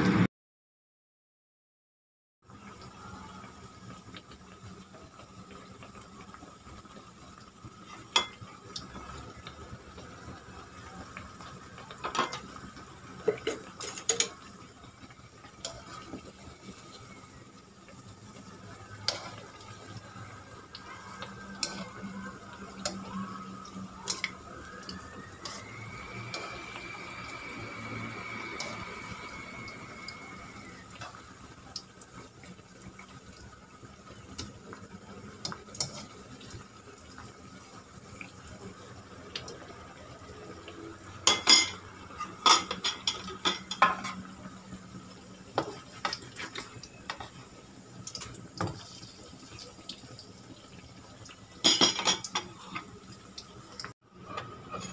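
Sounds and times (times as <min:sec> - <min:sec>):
patties sizzling in hot oil: 0:02.4 - 0:54.9.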